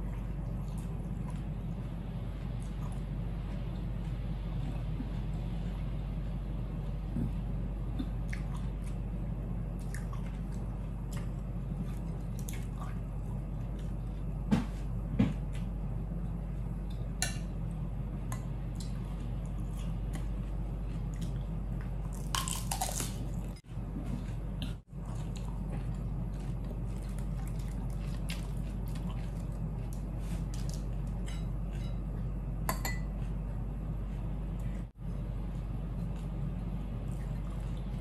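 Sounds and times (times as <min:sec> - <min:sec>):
person chewing food: 0:00.0 - 0:14.4, 0:15.3 - 0:38.0
low hum: 0:00.0 - 0:38.0.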